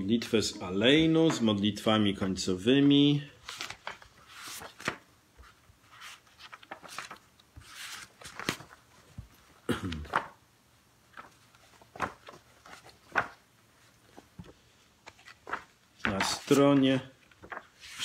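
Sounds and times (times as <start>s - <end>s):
paper pages rustling: 2.8s - 10.4s, 11.1s - 18.0s.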